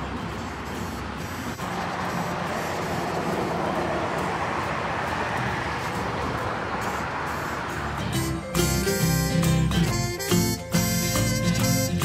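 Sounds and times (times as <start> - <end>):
outdoor rushing noise: 0.0 - 10.9.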